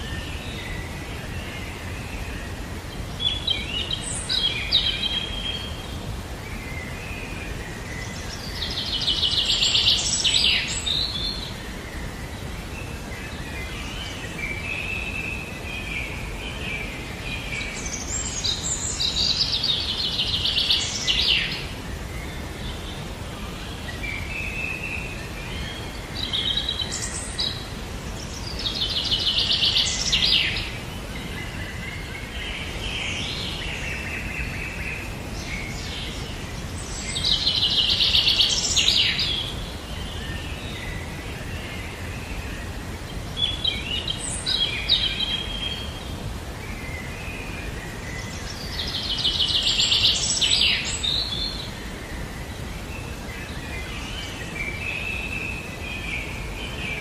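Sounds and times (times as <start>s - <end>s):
birds chirping: 0.0s - 57.0s
steady background hiss: 0.0s - 57.0s.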